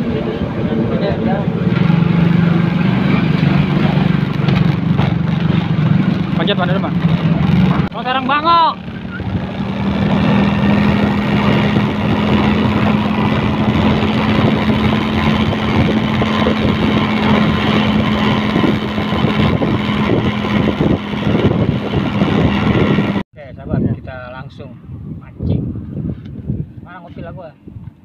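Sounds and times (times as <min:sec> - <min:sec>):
motorcycle engine running: 0:00.0 - 0:23.2
wind and road rush: 0:00.0 - 0:28.0.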